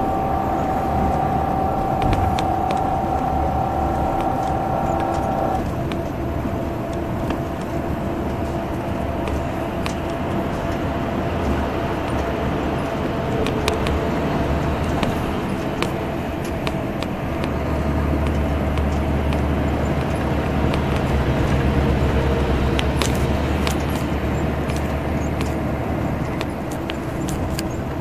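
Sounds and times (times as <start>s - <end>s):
bus diesel engine drone: 0.0s - 28.0s.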